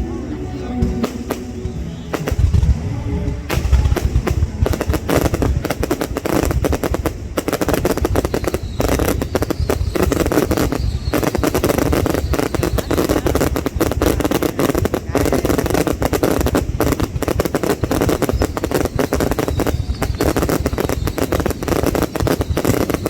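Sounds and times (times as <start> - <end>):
fireworks bangs and crackles: 0.5 - 23.0.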